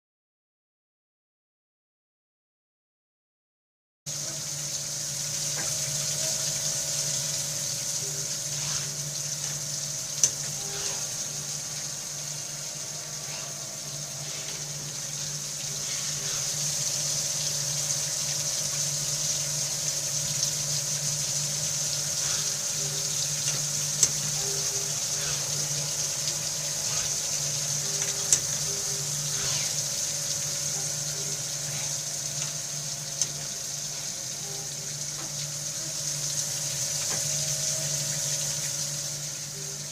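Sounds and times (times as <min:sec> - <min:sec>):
coolant hissing: 0:04.1 - 0:39.9.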